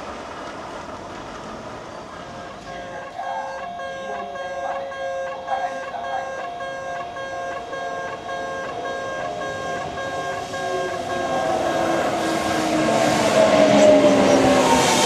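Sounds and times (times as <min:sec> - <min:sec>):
train approaching with whine: 0:00.0 - 0:15.0
level-crossing warning bell: 0:02.1 - 0:15.0.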